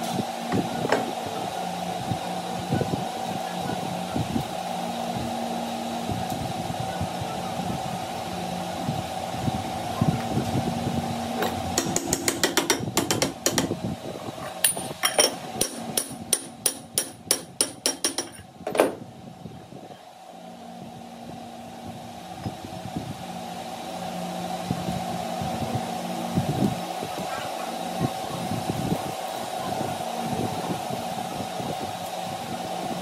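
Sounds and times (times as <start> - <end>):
workshop machine humming: 0.0 - 33.0.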